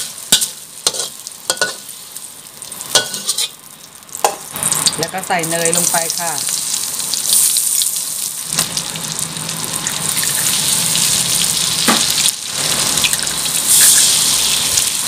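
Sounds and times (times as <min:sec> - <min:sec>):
butter sizzling in a wok: 0:00.0 - 0:15.0.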